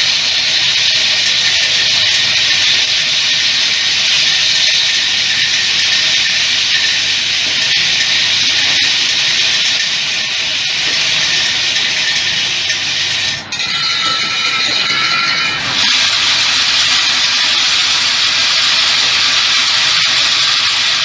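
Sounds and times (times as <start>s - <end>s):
soldering machine hissing: 0.0s - 21.0s.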